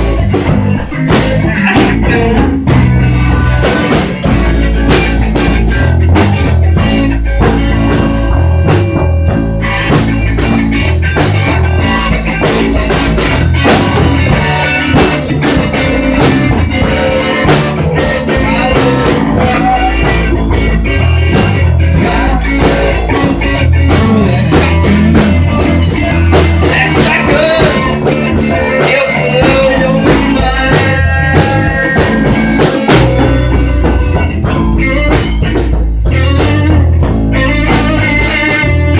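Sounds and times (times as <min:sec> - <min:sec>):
bass guitar: 0:00.0 - 0:38.9
drum kit beat: 0:00.0 - 0:38.9
electric guitar lines: 0:00.0 - 0:38.9.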